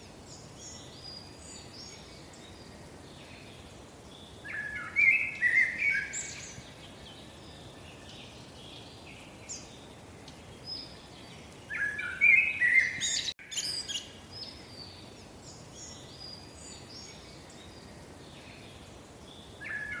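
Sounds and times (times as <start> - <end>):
faint steady hiss: 0.0 - 20.0
songbirds chirping: 0.0 - 20.0.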